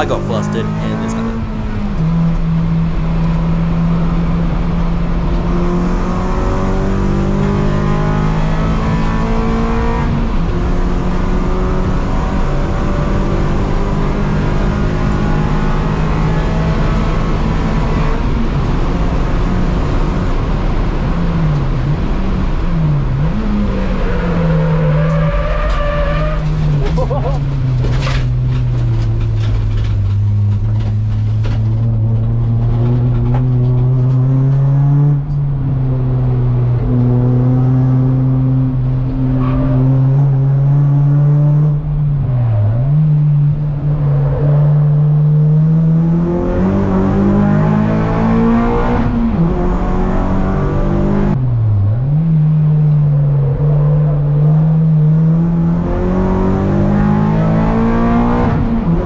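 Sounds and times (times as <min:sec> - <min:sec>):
race car engine driven hard: 0:00.0 - 0:59.0.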